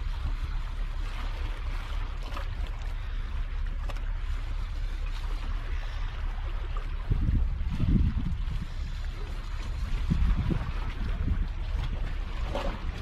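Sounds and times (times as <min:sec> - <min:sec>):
waves splashing against rock: 0:00.0 - 0:13.0
wind rumble on microphone: 0:00.0 - 0:13.0.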